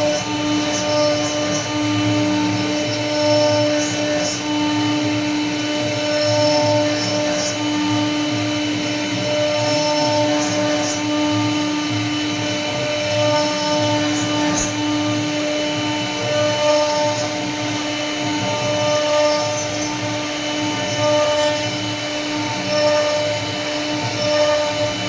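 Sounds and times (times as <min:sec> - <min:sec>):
cnc router spindle whining: 0:00.0 - 0:25.0.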